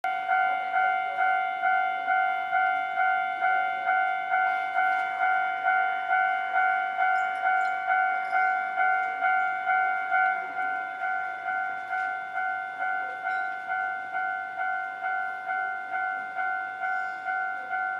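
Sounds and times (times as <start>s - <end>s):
level crossing warning bell: 0.0s - 17.9s.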